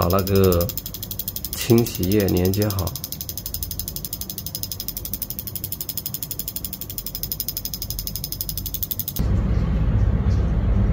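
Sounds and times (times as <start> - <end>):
fuel injector solenoid clicking: 0.0 - 9.2.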